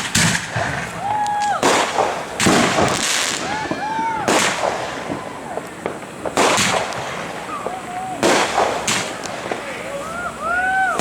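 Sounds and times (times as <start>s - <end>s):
fireworks blasts: 0.0s - 11.0s
fireworks crackling: 0.0s - 11.0s.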